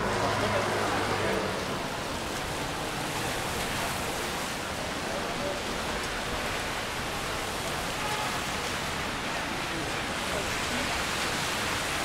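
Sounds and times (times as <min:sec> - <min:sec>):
rain falling on street: 0:00.0 - 0:12.0.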